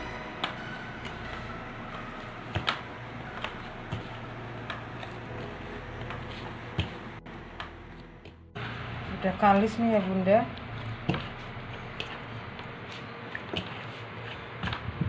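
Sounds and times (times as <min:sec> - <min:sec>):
hands kneading crumbly dough: 0:00.0 - 0:07.2, 0:08.7 - 0:15.0.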